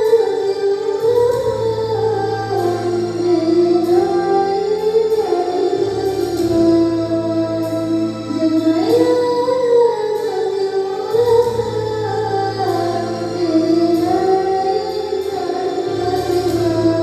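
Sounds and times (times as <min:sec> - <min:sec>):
instrumental accompaniment with drone: 0:00.0 - 0:17.0
person singing devotional song: 0:00.0 - 0:17.0.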